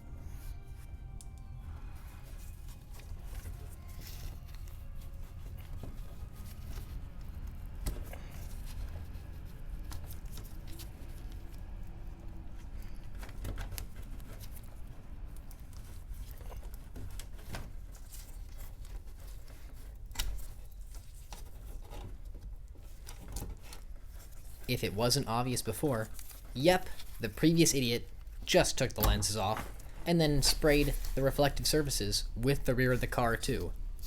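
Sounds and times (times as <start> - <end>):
steady low hum: 0.0 - 17.3, 24.0 - 34.0.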